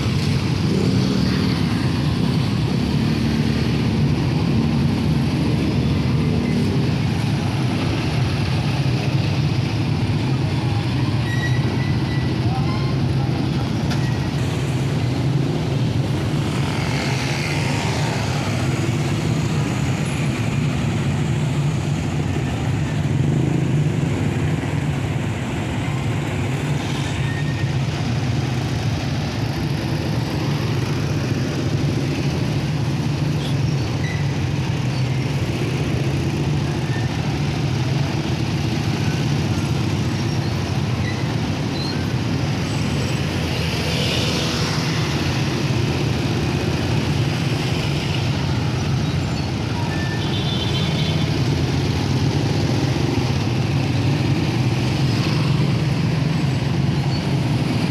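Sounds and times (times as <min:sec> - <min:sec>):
road and traffic noise: 0:00.0 - 0:57.9.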